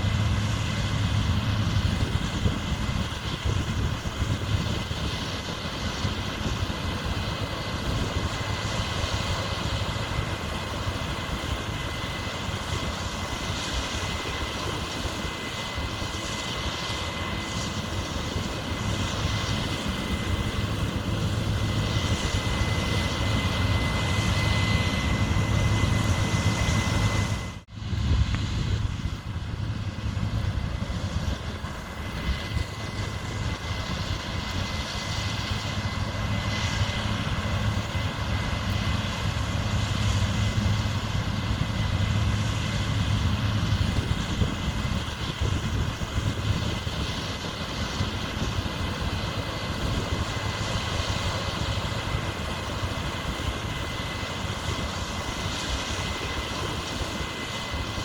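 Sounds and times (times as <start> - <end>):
high machine whine: 0.0 - 58.0.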